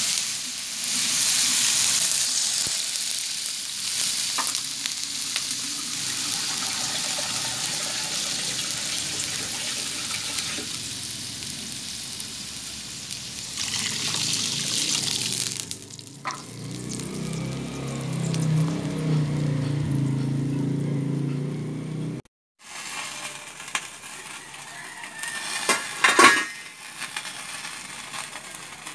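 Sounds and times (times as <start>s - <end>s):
water sizzling in hot wok: 0.0s - 19.4s, 22.6s - 28.9s.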